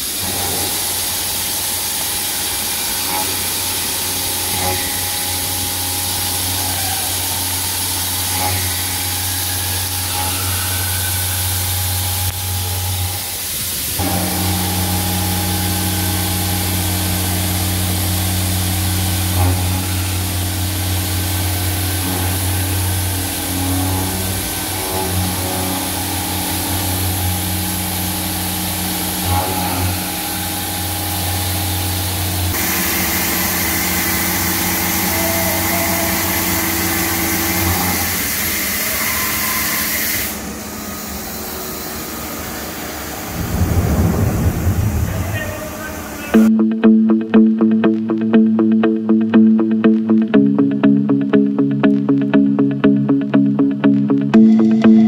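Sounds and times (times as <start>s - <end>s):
milling machine low drone: 0.0s - 46.6s, 54.3s - 55.0s.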